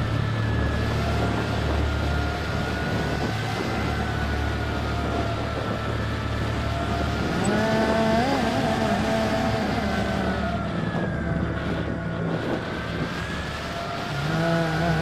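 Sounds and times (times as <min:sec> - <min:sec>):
model plane electric motor whining: 0:02.6 - 0:15.0.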